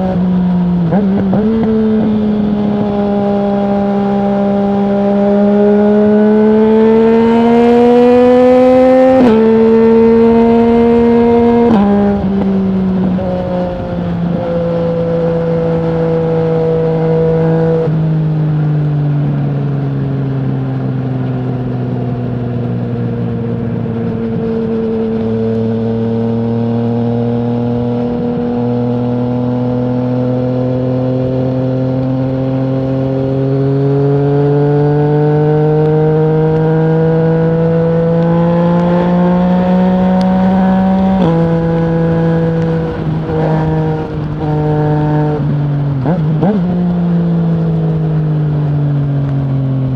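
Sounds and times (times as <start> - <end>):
gear shift pitch drop: 0.0 - 49.9
motorcycle engine revving: 0.0 - 49.9.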